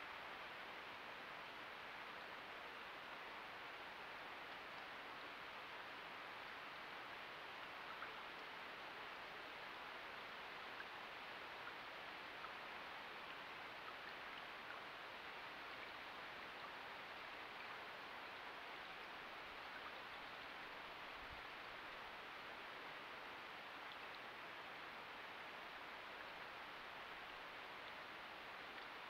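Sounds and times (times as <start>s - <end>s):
river flowing over stones: 0.0s - 29.0s.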